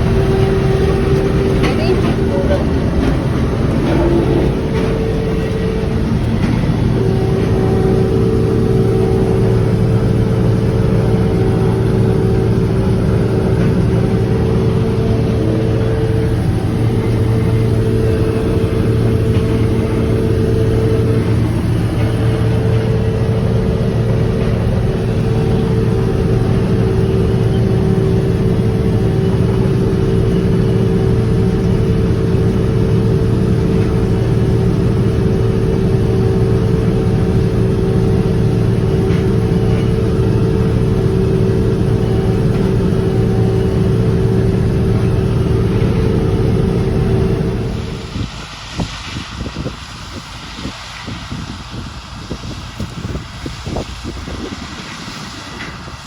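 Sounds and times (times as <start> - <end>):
farm machine engine running: 0.0 - 56.0
steady whine: 0.0 - 56.0.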